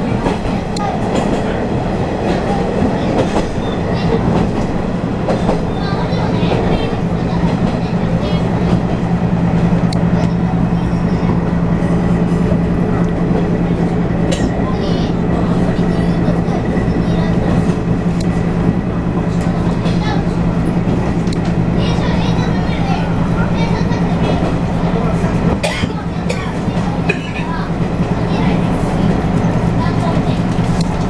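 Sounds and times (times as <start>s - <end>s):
engine hum: 0.0s - 31.0s
train wheels rumbling on rails: 0.0s - 31.0s.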